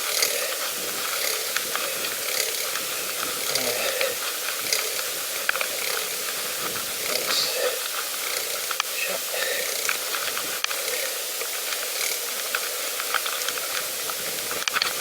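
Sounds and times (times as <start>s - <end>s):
bicycle freewheel ticking: 0.0s - 15.0s
steady hiss: 0.0s - 15.0s.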